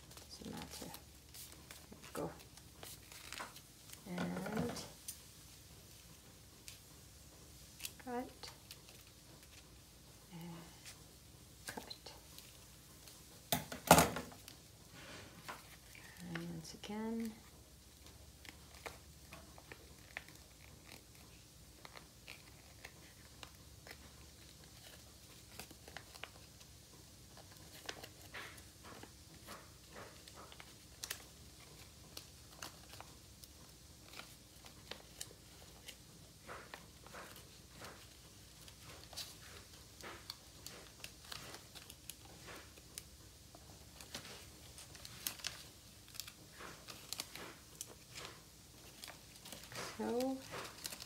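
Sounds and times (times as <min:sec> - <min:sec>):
paper crinkling and rustling: 0:00.0 - 0:05.2, 0:14.2 - 0:51.0.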